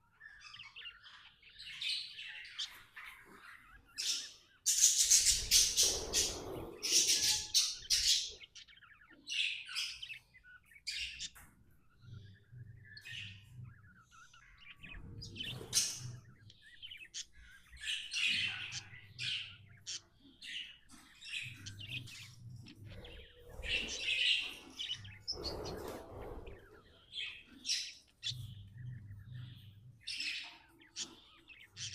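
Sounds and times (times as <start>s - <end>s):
budgerigar chirping: 0.2s - 31.9s.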